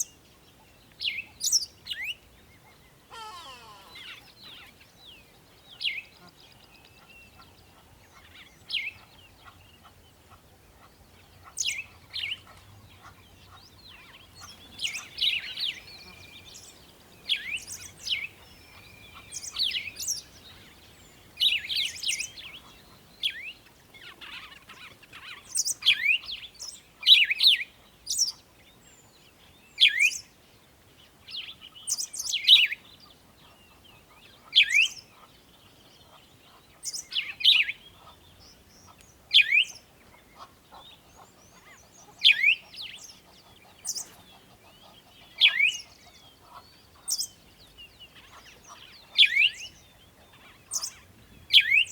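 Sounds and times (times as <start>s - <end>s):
bird chirping: 0.0s - 30.3s, 31.4s - 51.9s.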